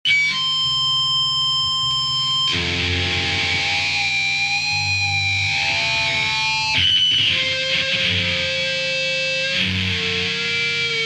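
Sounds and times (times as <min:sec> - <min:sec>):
distorted electric guitar chords: 0:00.1 - 0:11.0.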